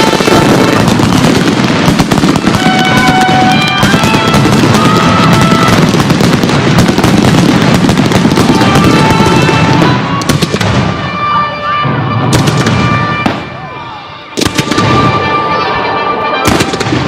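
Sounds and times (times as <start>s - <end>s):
fireworks popping and crackling: 0.0s - 13.6s, 14.4s - 15.7s, 16.4s - 17.0s.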